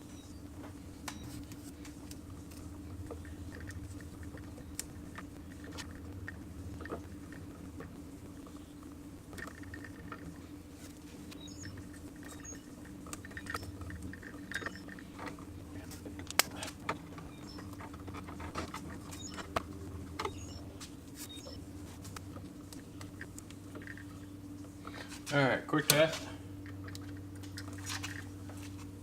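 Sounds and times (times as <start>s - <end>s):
steady low hum: 0.0s - 29.0s
clicks and rustles of wiring: 0.6s - 29.0s.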